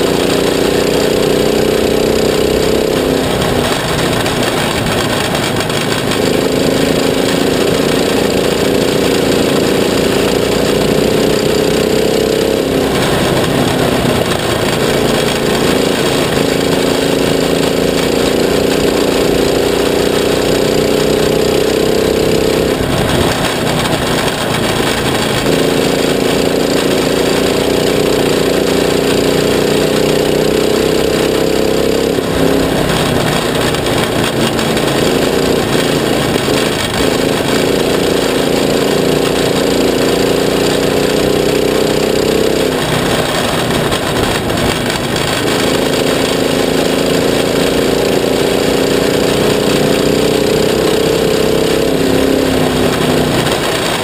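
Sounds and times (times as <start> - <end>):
kart engine running hard: 0.0 - 54.0
road and track noise: 0.0 - 54.0.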